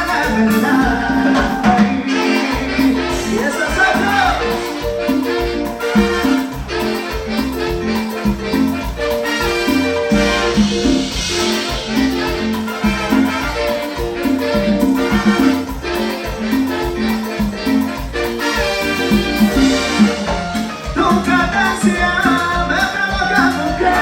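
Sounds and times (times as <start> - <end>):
latin dance orchestra playing: 0.0 - 24.0.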